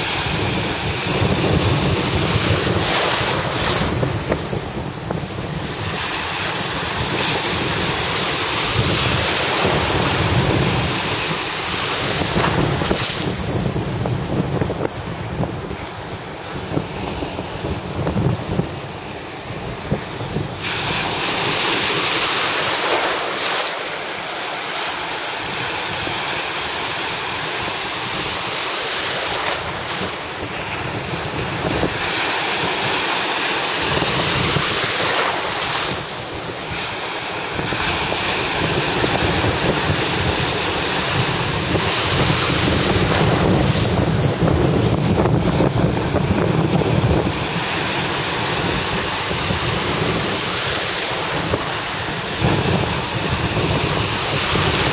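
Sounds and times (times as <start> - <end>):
small waves breaking: 0.0 - 54.9
wind buffeting microphone: 0.0 - 54.9.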